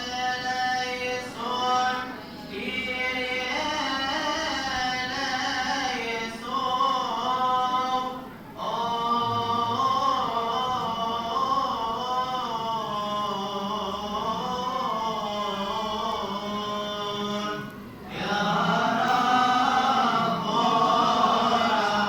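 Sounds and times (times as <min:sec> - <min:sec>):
man chanting a hymn: 0:00.0 - 0:22.0.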